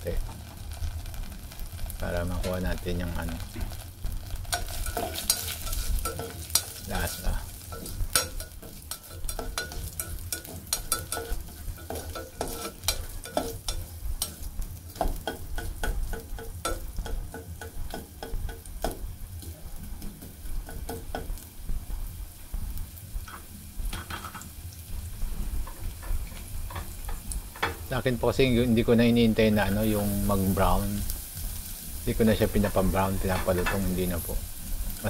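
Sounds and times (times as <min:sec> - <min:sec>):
ginger sizzling in hot oil: 0:00.0 - 0:35.0
spatula scraping and clacking on pan: 0:00.2 - 0:22.1, 0:23.2 - 0:24.6, 0:25.2 - 0:27.9, 0:29.6 - 0:35.0.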